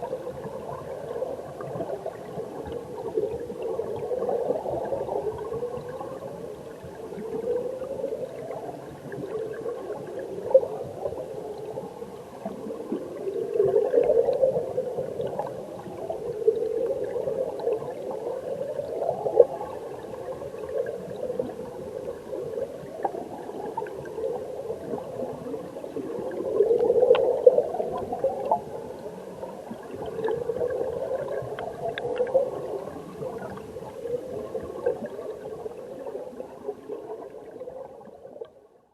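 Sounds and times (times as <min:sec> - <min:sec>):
underwater stream gurgling: 0:00.0 - 0:38.9.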